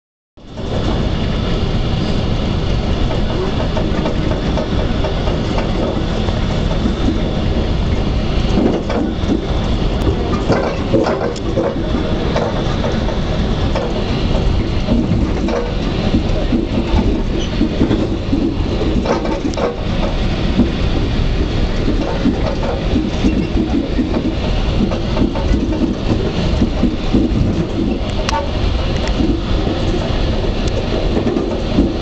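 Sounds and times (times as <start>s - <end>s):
train wheels rumbling on rail: 0.4s - 32.0s
wheels clicking on track: 0.5s - 32.0s.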